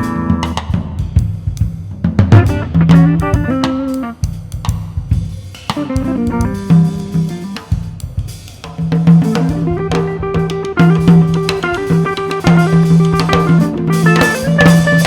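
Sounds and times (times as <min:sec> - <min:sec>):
drum kit played busily: 0:00.0 - 0:15.0.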